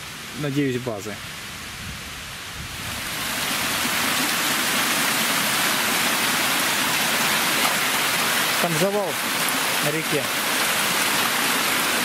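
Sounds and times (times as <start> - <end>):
river rushing over cascades: 0.0 - 12.0.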